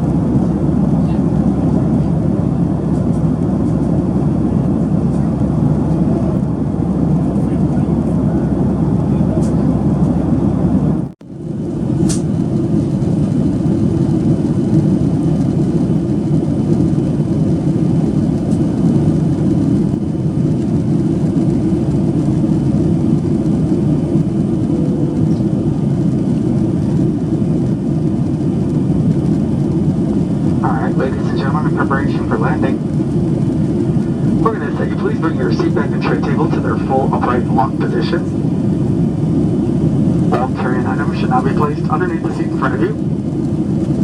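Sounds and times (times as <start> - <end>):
airplane cabin engine rumble: 0.0 - 44.0.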